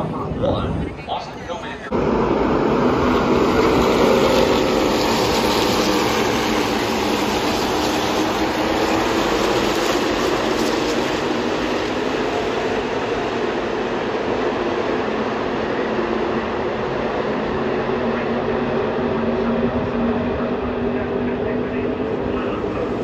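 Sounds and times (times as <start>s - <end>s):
race truck engines droning: 0.0s - 23.0s.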